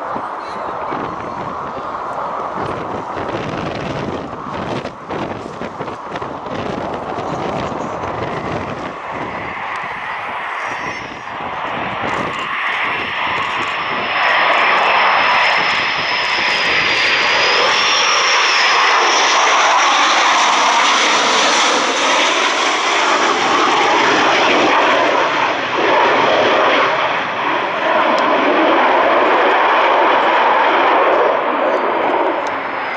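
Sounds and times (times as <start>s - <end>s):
high turbine whine: 0.0s - 32.9s
military aircraft engines roaring: 0.0s - 32.9s.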